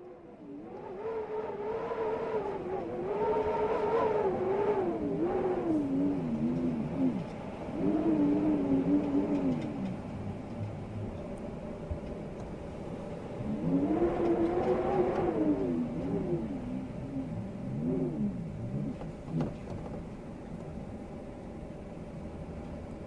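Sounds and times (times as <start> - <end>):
storm wind howling: 0.0 - 23.0.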